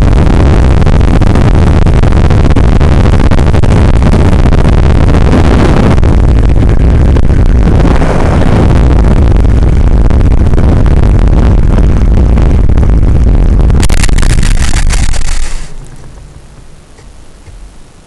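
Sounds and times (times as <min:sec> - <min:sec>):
rushing noise with low rumble: 0:00.0 - 0:18.0.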